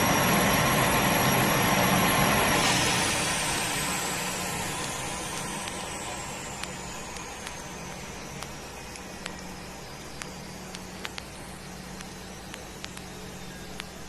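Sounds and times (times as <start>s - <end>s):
turbine engine whine winding down: 0.0s - 14.0s.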